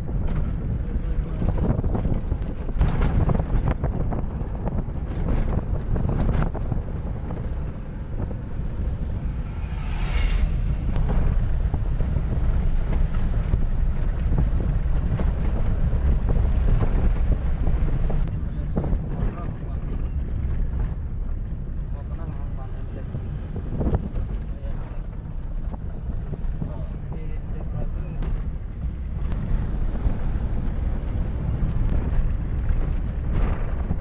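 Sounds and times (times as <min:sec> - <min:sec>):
road rumble: 0:00.0 - 0:34.0
wind buffeting microphone: 0:00.0 - 0:34.0.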